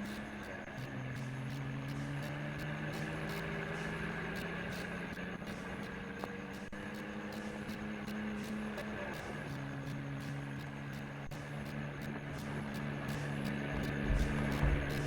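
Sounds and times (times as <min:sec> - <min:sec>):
tractor engine humming: 0:00.0 - 0:15.0.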